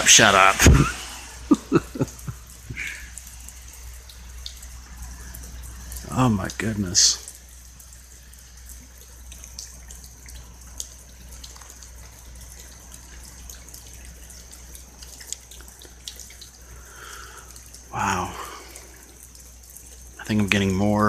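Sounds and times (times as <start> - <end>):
drips ticking: 0.0 - 21.0
rain falling: 0.0 - 21.0.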